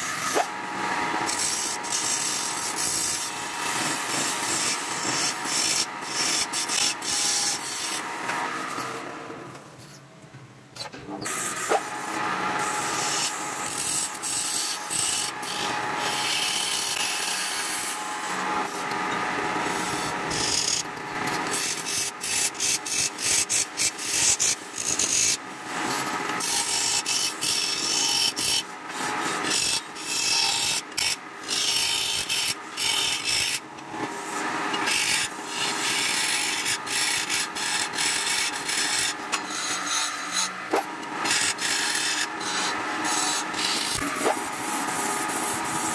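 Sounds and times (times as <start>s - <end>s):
lathe tool scraping wood: 0.0s - 9.0s, 11.3s - 45.9s.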